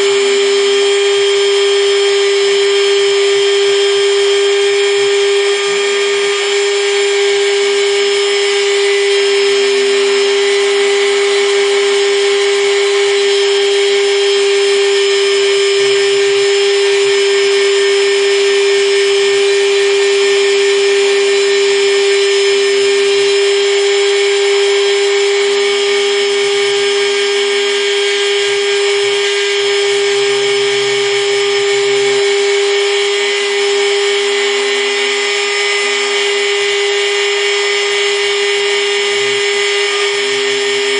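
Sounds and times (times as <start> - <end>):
mill spindle high whine: 0.0 - 40.9.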